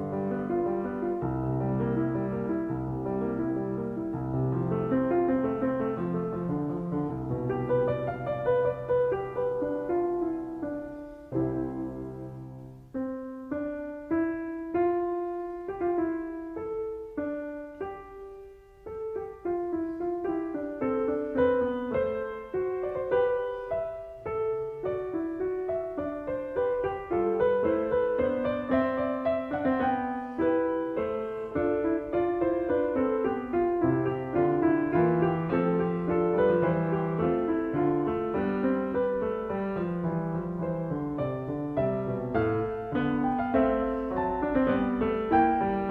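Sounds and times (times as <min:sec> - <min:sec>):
solo piano melody: 0:00.0 - 0:45.9.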